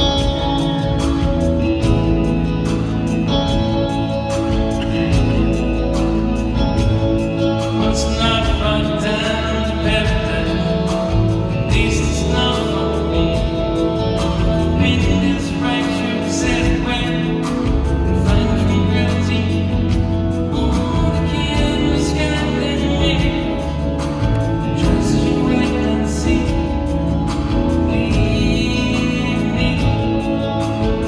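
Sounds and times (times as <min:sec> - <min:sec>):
live band playing: 0:00.0 - 0:31.0
man singing lead: 0:00.0 - 0:31.0.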